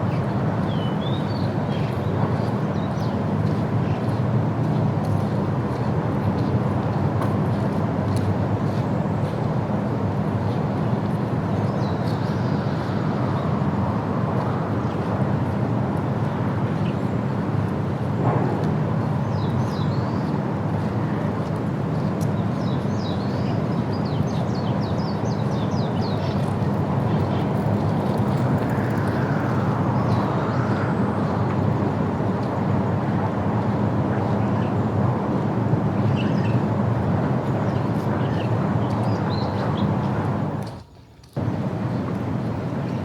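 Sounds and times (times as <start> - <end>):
steady low rumble: 3.2 - 40.8, 41.4 - 43.0.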